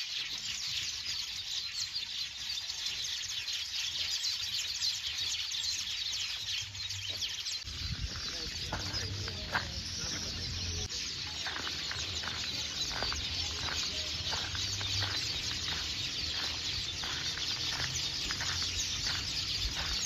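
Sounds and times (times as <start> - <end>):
birds chattering: 0.0 - 20.0.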